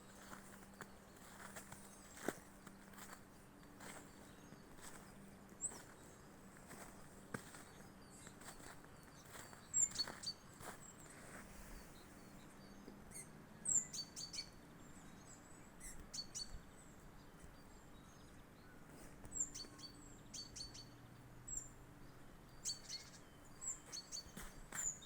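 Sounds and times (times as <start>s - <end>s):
small songbirds chirping: 0.0s - 25.0s.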